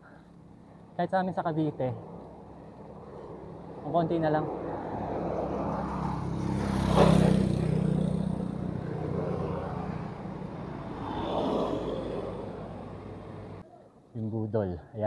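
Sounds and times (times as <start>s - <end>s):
vehicles passing on road: 0.0s - 13.6s.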